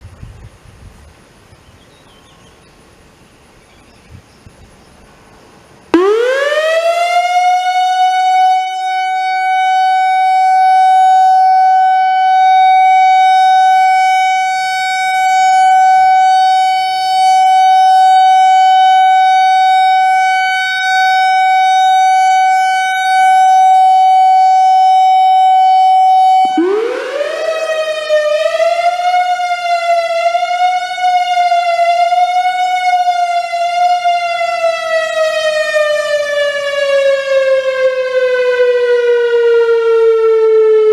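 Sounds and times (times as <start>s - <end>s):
outdoor warning siren: 5.9s - 40.9s.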